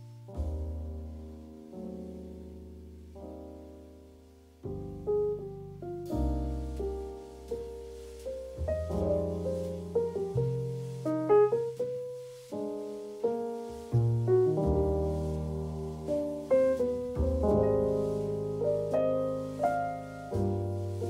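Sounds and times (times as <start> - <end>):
soft piano music: 0.0 - 21.0.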